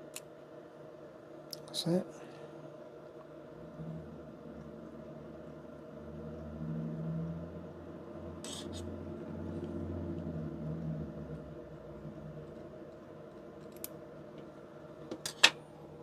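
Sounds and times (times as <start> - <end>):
low hum: 2.2 - 16.0.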